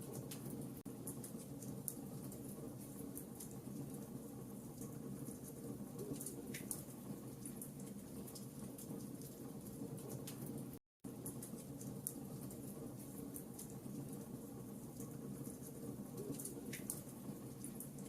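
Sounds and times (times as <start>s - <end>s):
wood crackling and popping: 0.0s - 18.0s.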